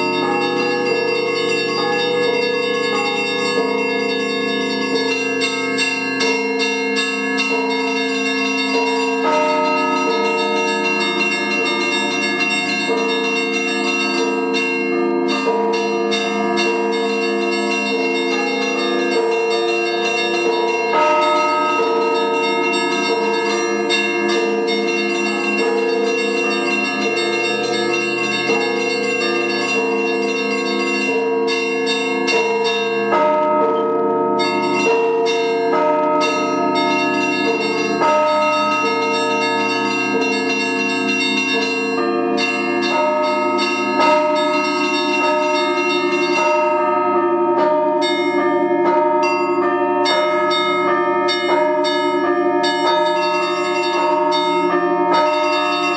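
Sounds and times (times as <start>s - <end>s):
church bells pealing: 0.0s - 55.9s.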